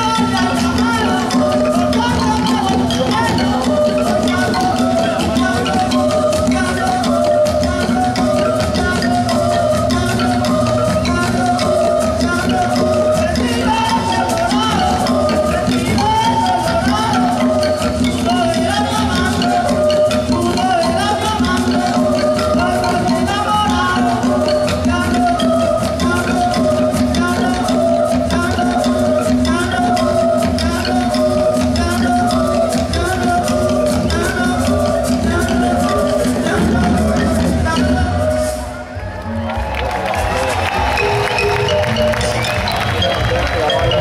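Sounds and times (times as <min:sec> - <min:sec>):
shaker rattle: 0:00.0 - 0:38.8
women singing: 0:00.0 - 0:38.9
hand drums: 0:00.0 - 0:44.0
marimba playing: 0:00.0 - 0:44.0.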